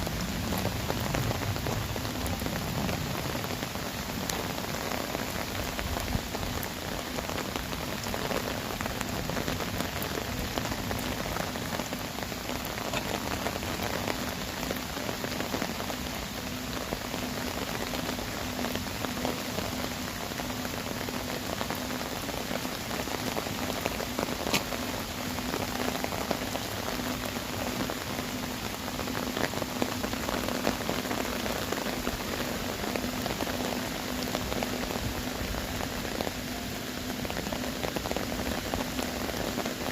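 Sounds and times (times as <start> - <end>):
heavy rain on earthenware jars: 0.0 - 39.9.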